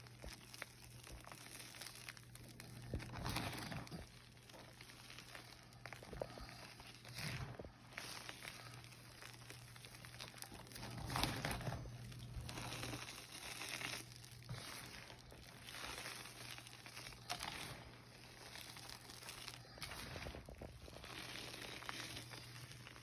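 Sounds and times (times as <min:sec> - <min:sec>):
chalk crunching and crumbling: 0:00.0 - 0:23.0.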